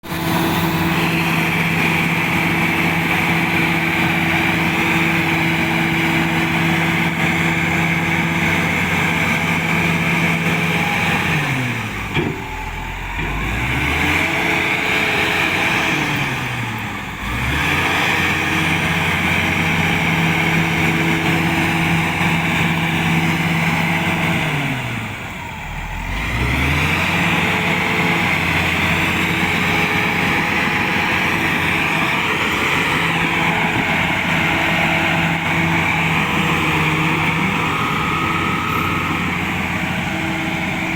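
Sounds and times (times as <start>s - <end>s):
bulldozer diesel engine revving: 0.0s - 40.9s.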